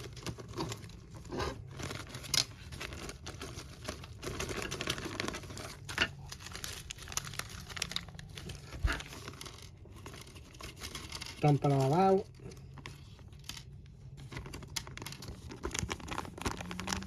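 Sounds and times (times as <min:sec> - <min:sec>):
packaging crinkling and tearing: 0:00.0 - 0:17.0.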